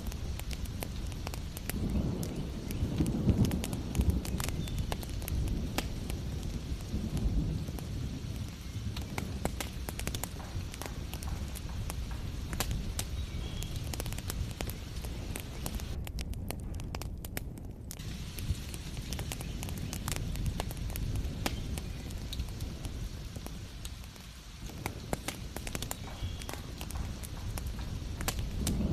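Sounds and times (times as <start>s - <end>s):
steady low rumble: 0.0s - 28.9s
wood fire crackling and popping: 0.0s - 28.9s.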